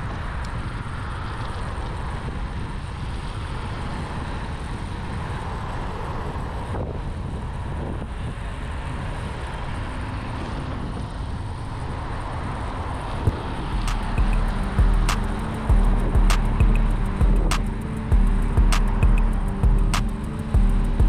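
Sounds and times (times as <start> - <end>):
scooter road noise: 0.0 - 21.0
wind rush on microphone: 0.0 - 21.0.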